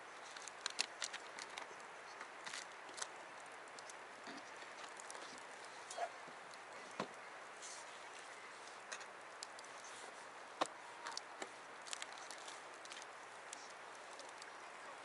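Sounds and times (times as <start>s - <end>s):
faint hiss: 0.0s - 15.0s
wood fire crackling: 0.0s - 15.0s.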